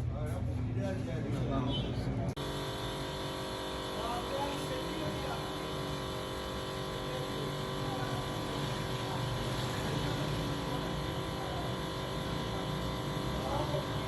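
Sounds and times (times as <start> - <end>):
machine hum with fixed tones: 2.4 - 14.0.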